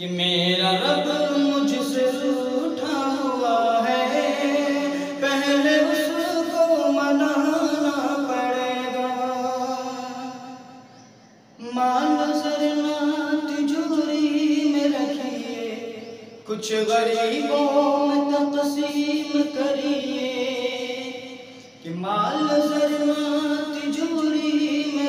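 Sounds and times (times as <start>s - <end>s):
man singing unaccompanied: 0.0s - 25.0s.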